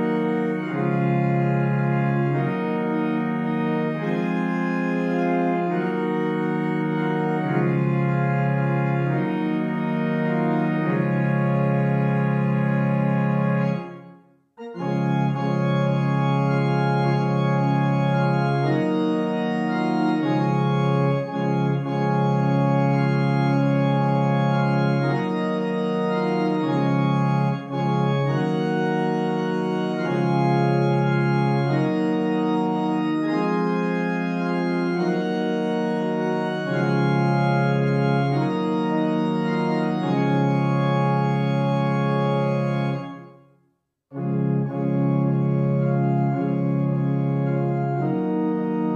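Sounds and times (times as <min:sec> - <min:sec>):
pipe organ sustained chords: 0:00.0 - 0:43.4, 0:44.1 - 0:48.9.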